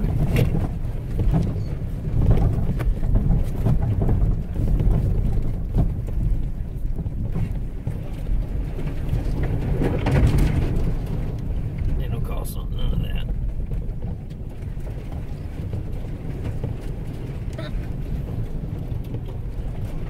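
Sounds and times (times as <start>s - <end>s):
low rumble of engine and tyres: 0.0s - 20.0s.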